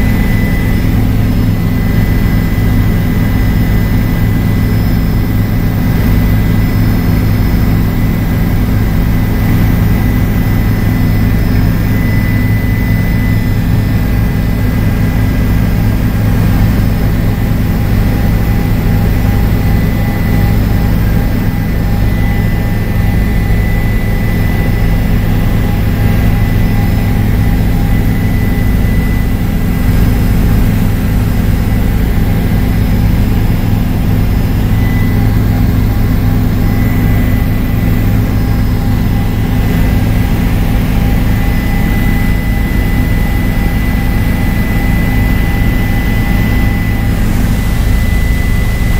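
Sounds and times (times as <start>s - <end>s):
helicopter engine and rotor drone: 0.0s - 48.9s
high turbine whine: 0.0s - 48.9s.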